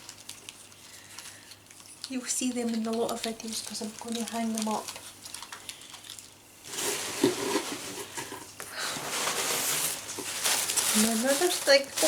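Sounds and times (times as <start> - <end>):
gift wrapping rustling: 0.0 - 12.0.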